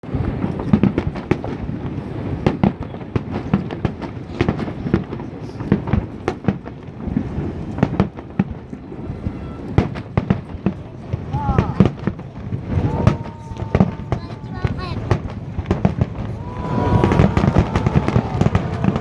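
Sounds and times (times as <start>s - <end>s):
fireworks booms and cracks: 0.0s - 19.0s.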